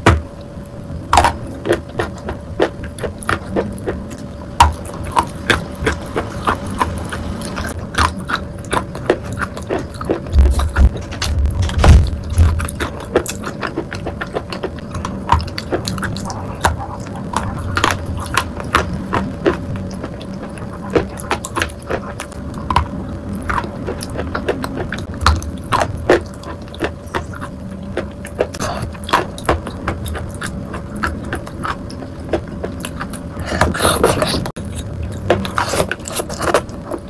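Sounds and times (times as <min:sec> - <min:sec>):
chewing with mouth clicks and smacks: 0:01.1 - 0:37.0.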